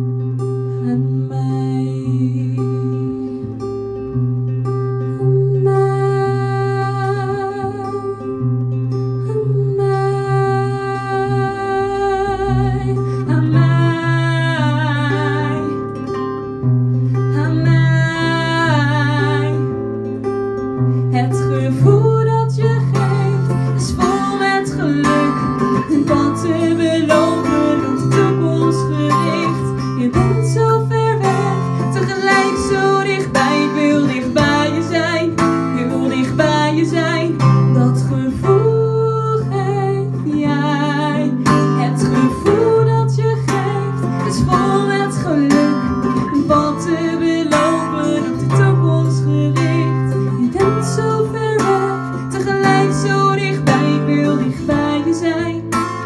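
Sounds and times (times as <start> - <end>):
acoustic guitar strumming: 0.0 - 56.0
woman singing with vibrato: 0.8 - 3.7, 5.0 - 8.5, 9.2 - 16.3, 17.2 - 20.1, 21.0 - 56.0.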